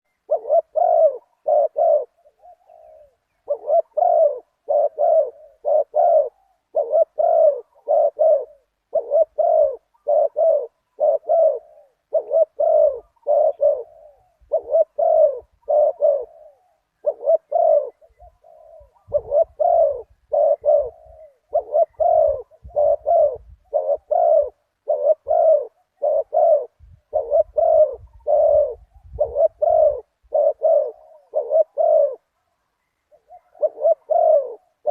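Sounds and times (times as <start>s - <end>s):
dove cooing: 0.1s - 34.9s.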